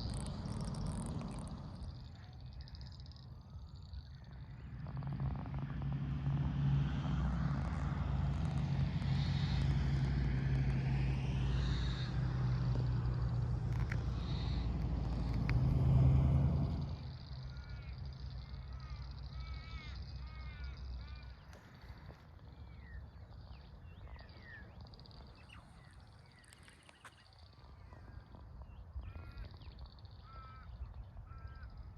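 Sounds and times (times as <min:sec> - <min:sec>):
birds chirping: 0:00.0 - 0:31.9
engine hum with road noise: 0:00.0 - 0:31.9.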